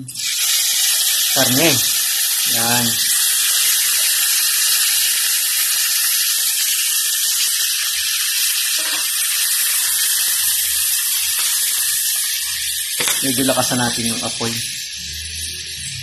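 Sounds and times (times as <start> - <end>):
pork sizzling in a frying pan: 0.0 - 16.0.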